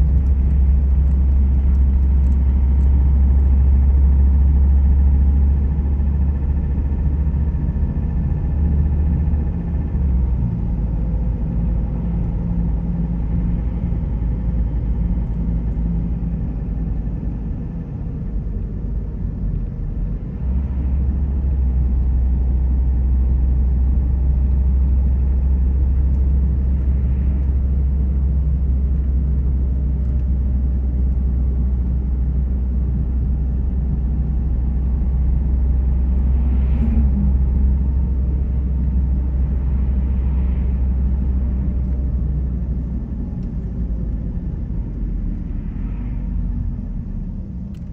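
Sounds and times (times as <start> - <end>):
car engine rumble: 0.0 - 47.9
road noise: 0.0 - 47.9.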